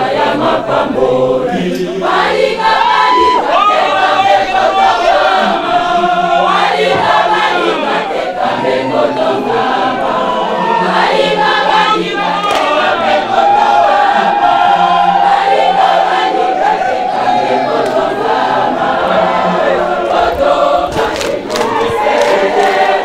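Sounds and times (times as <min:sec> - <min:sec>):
choir singing: 0:00.0 - 0:23.0.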